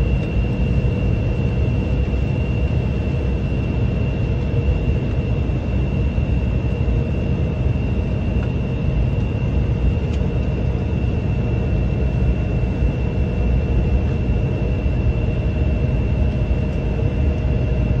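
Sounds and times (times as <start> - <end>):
high engine whine: 0.0 - 18.0
jet engine low rumble: 0.0 - 18.0.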